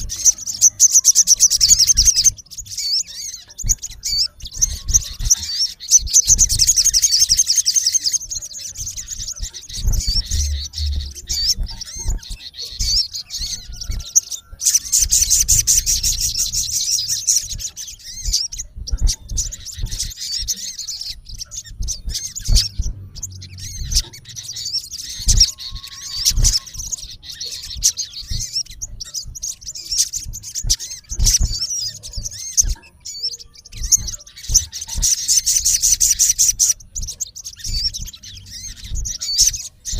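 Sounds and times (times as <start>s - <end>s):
soft bird chirping: 0.0s - 39.9s
sunbird chirps and trills: 0.0s - 39.9s.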